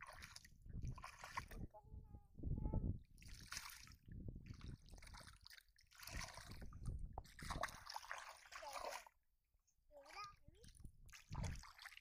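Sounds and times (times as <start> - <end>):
shallow water sloshing and splashing: 0.0 - 1.7, 3.1 - 9.2, 10.0 - 12.0.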